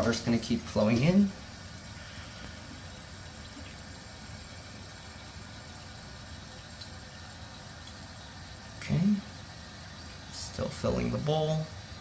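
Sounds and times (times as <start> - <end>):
toilet tank refilling with water: 0.0 - 12.0.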